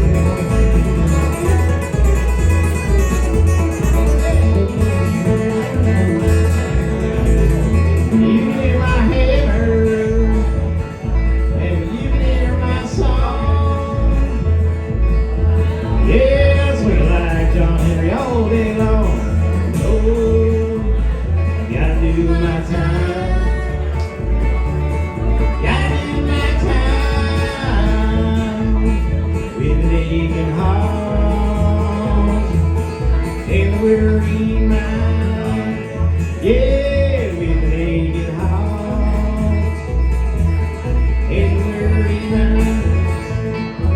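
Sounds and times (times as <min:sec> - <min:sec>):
acoustic guitar melody: 0:00.0 - 0:43.9
banjo melody: 0:00.0 - 0:43.9
bass line: 0:00.0 - 0:43.9.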